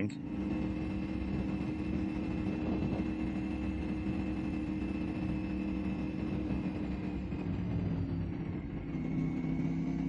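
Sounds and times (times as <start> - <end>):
motorcycle engine running: 0.0 - 10.0
wind and road rumble: 0.0 - 10.0.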